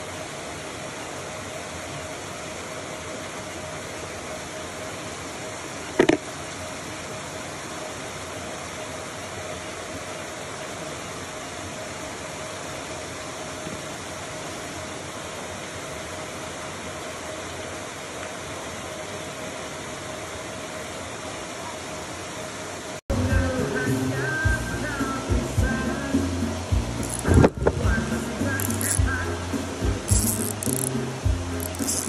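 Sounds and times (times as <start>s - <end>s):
faint constant hum: 0.0s - 32.0s.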